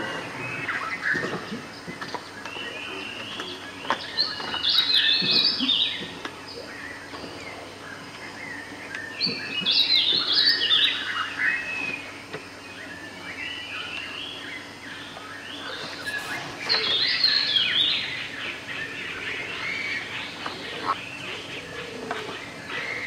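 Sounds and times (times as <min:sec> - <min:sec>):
birds chirping rapidly: 0:00.0 - 0:23.0.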